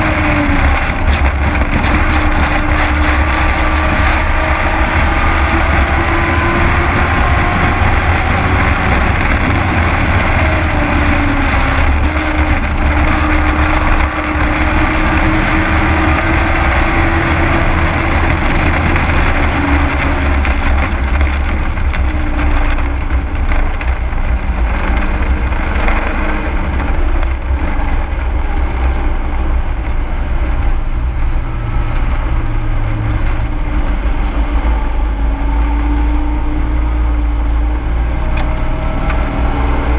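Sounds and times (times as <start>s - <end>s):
heavy low rumble: 0.0s - 39.9s
truck engine revving: 0.0s - 39.9s.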